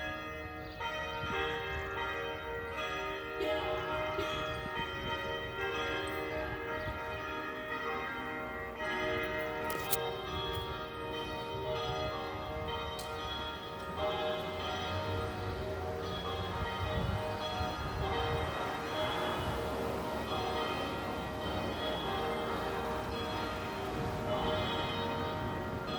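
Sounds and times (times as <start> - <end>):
church bells ringing: 0.0 - 25.9.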